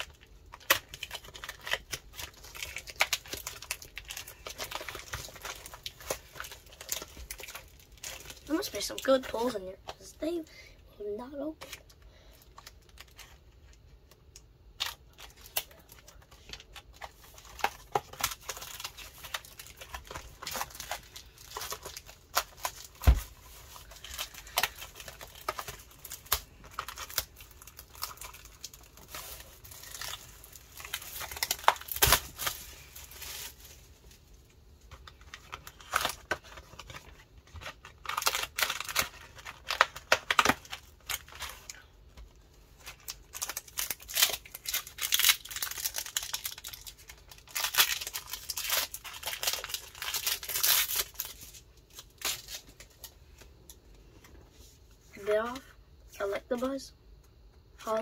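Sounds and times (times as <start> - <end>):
plastic wrap crinkling and tearing: 0.0 - 53.8.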